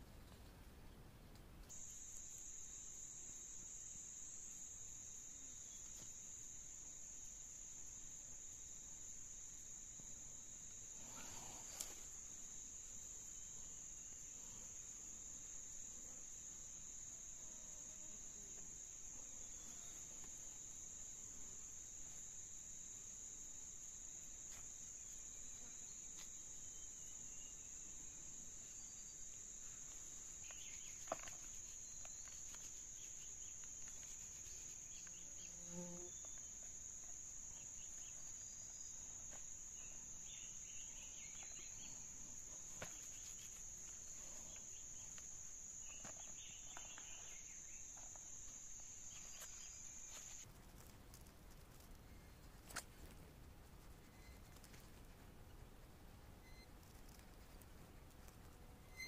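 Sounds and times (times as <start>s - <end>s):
insects droning: 1.6s - 59.0s.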